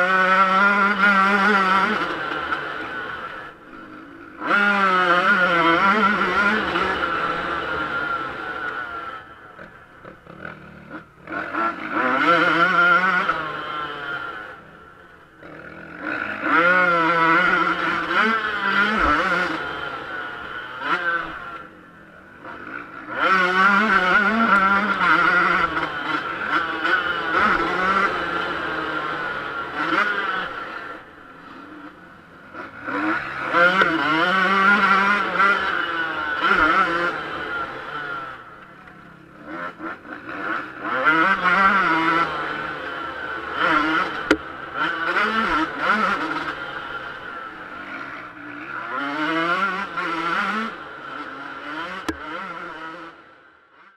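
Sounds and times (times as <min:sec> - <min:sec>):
motocross engine revving: 0:00.0 - 0:53.9.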